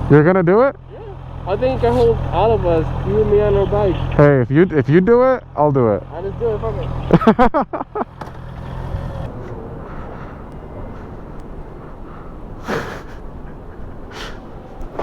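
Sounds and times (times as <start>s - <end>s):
motorcycle engine idling: 0.0s - 12.6s
background rumble: 0.0s - 15.0s.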